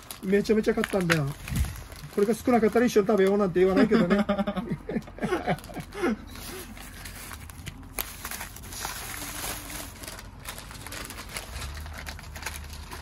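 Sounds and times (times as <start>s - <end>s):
food packaging crinkling: 0.0s - 13.0s.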